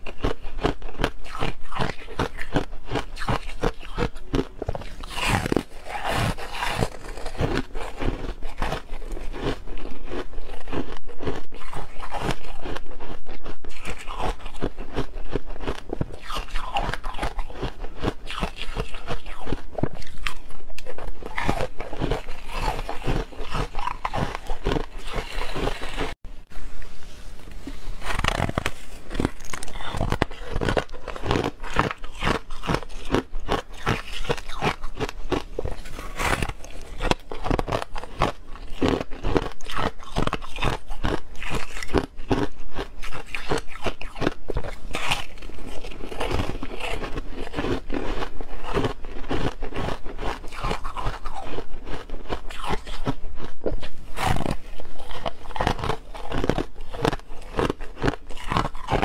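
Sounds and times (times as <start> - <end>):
frost being chewed: 0.0 - 26.2, 26.8 - 59.0.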